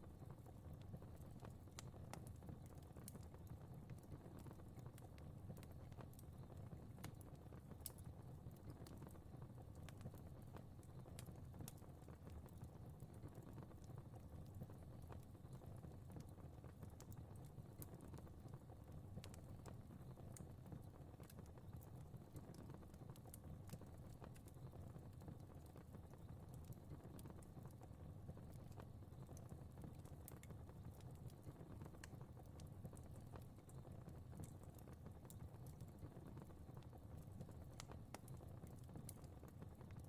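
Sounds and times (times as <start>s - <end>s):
fire crackling: 0.1s - 40.0s.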